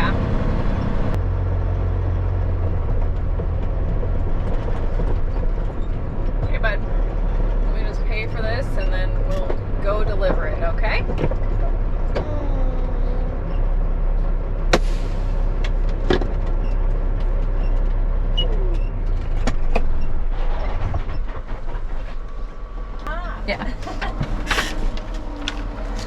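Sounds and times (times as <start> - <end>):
diesel truck engine idling: 0.0 - 20.3, 21.3 - 26.0.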